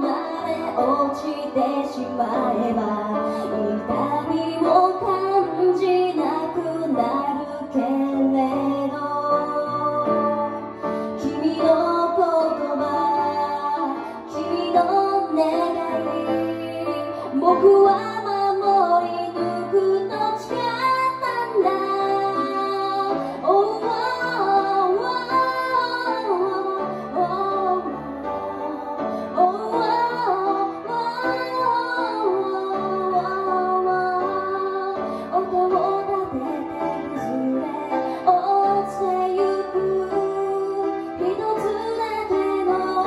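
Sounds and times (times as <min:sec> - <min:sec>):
grand piano chords: 0:00.0 - 0:43.0
woman singing into a microphone: 0:00.0 - 0:43.0.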